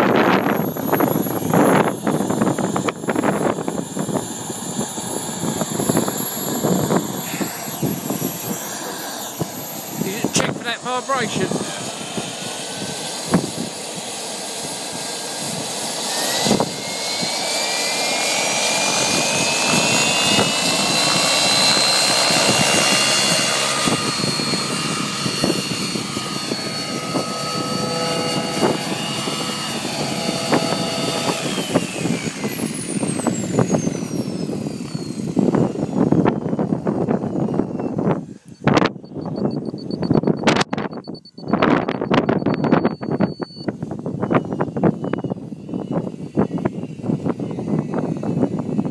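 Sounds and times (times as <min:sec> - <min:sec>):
gas turbine whine: 0:00.0 - 0:48.9
helicopter rotor noise: 0:00.0 - 0:48.9.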